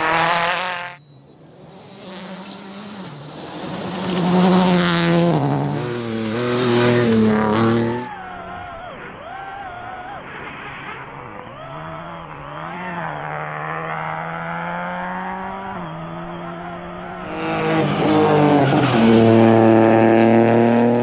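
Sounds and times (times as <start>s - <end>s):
rally car engine at high revs: 0.0s - 8.1s, 11.7s - 21.0s.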